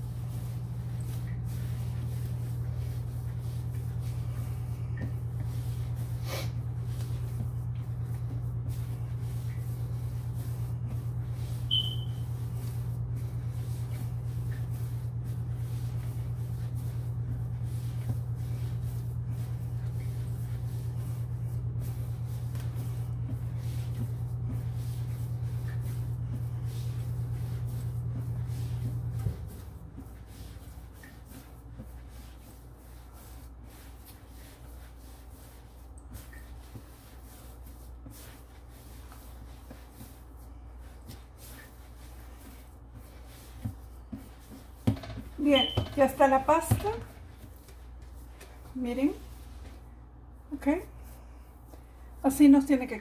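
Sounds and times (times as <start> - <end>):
steady low hum: 0.0 - 53.0
dough pressed by hand: 4.9 - 49.8.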